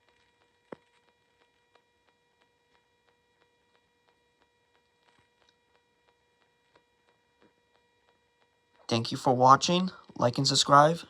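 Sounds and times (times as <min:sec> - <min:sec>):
faint electronic whine: 0:00.0 - 0:11.0.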